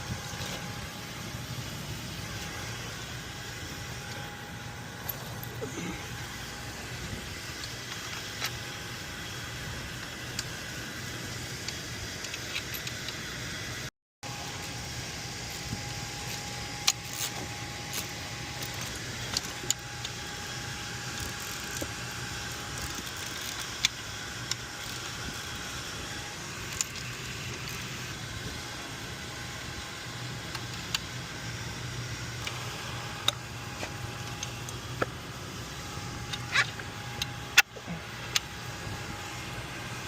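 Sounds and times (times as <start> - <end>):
machinery hum: 0.0 - 40.0.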